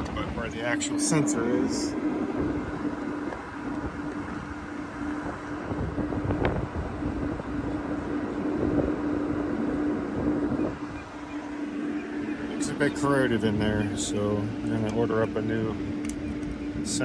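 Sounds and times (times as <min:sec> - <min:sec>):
air conditioning unit hum: 0:00.0 - 0:17.0.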